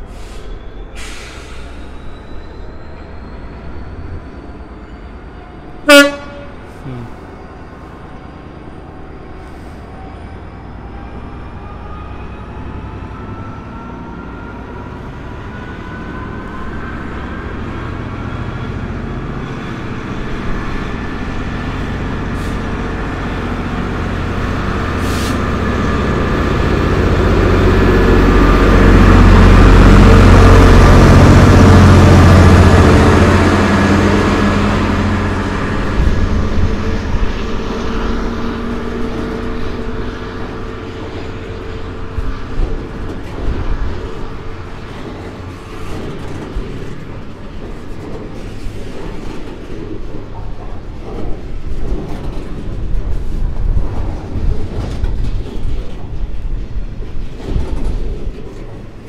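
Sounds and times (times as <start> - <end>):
diesel train engine rumble: 0.0 - 59.0.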